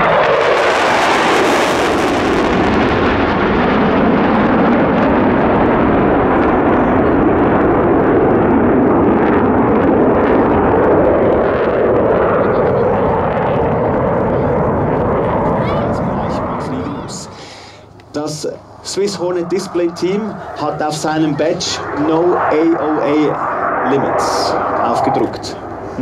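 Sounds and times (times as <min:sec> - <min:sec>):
fighter jets roaring past: 0:00.0 - 0:26.0.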